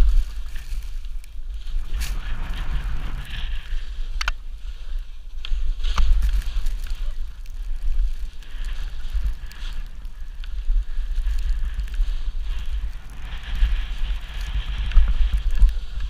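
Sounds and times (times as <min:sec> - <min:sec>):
skis scraping over snow: 0:00.0 - 0:16.0
wind buffeting microphone: 0:00.0 - 0:16.0.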